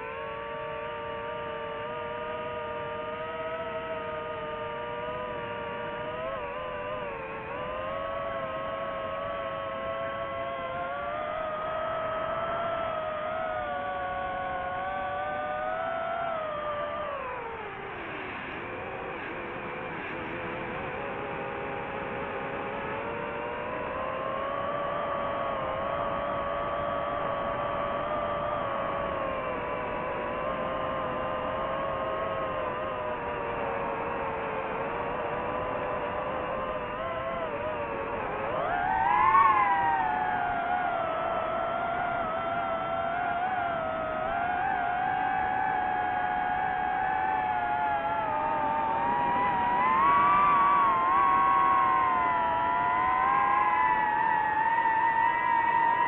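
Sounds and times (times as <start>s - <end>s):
drone propellers whining: 0.0s - 56.0s.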